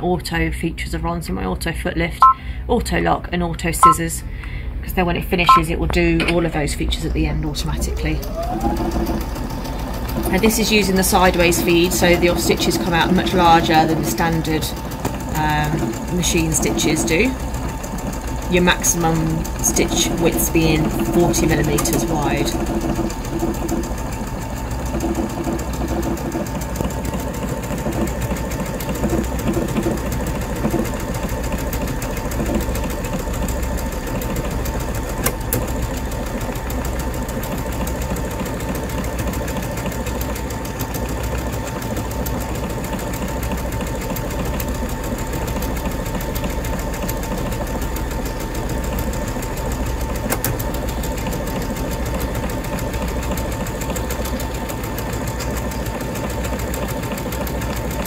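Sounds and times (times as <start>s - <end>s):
sewing machine running: 7.3s - 58.0s.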